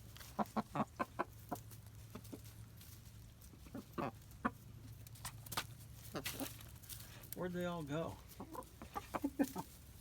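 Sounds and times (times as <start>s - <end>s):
chickens clucking: 0.0s - 7.4s, 8.1s - 10.0s.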